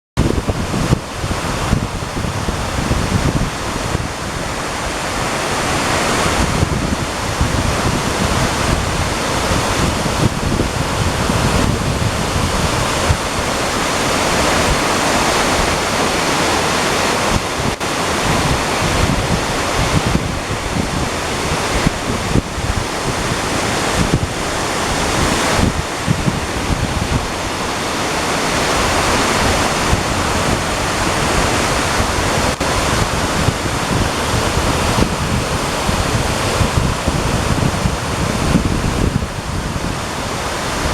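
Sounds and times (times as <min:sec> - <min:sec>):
waterfall rushing: 0:00.2 - 0:40.9
wind buffeting microphone: 0:00.2 - 0:40.9.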